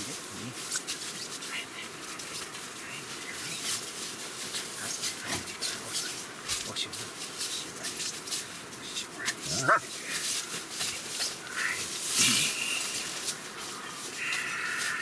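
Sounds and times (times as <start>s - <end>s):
dogs rustling on groundsheet: 0.0s - 15.0s.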